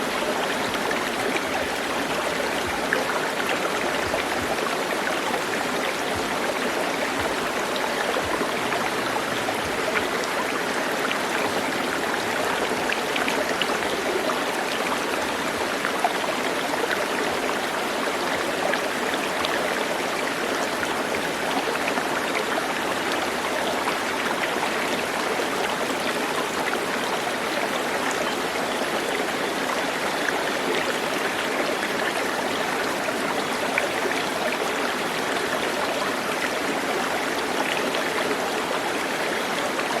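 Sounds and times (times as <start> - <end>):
water flowing over stones: 0.0 - 40.0.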